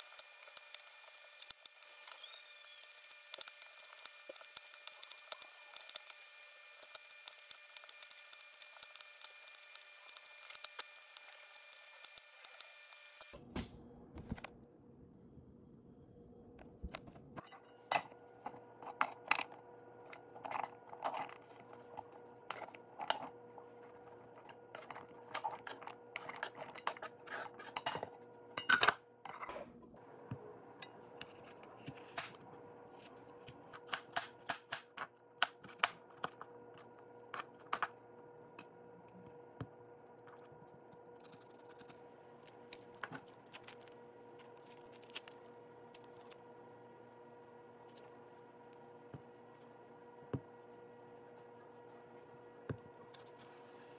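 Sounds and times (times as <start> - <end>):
faint kitchen hum: 0.0 - 53.9.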